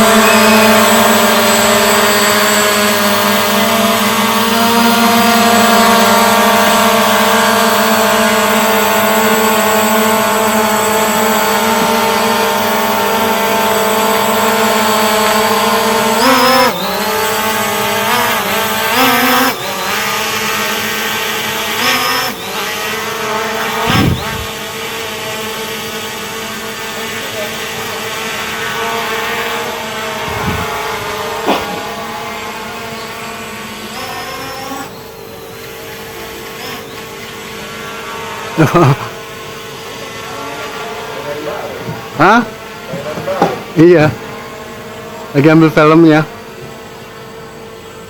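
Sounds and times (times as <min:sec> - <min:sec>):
drone propellers whining: 0:00.0 - 0:48.0.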